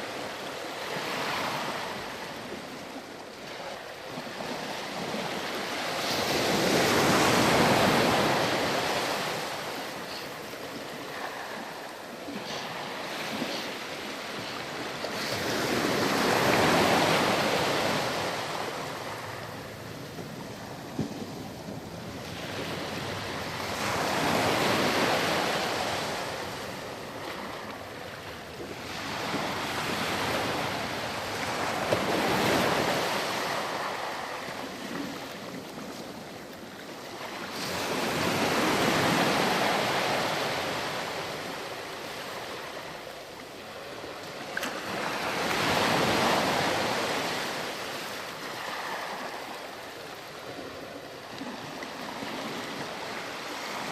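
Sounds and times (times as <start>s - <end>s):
waves breaking on a beach: 0.0s - 53.9s.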